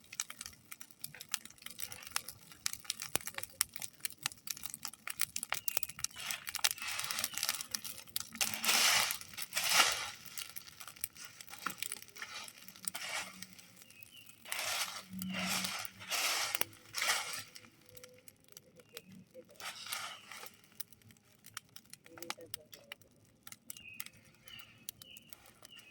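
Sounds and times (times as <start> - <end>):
fire hissing: 0.0 - 18.3, 18.9 - 21.6
fire crackling and popping: 0.0 - 25.9.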